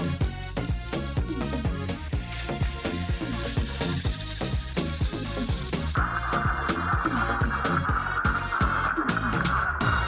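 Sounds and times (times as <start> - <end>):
electronic music with steady beat: 1.2 - 10.0.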